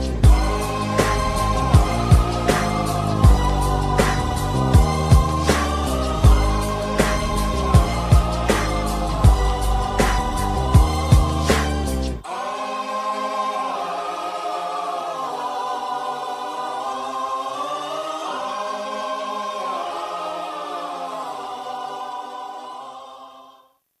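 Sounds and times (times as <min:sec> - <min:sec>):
choir singing held notes: 0:00.0 - 0:23.7.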